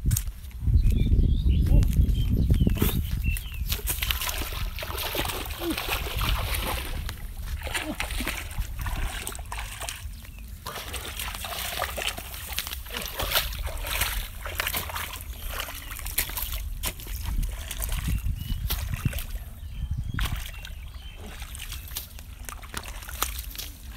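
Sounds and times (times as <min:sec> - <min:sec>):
feet splashing through muddy water: 0:02.2 - 0:23.9.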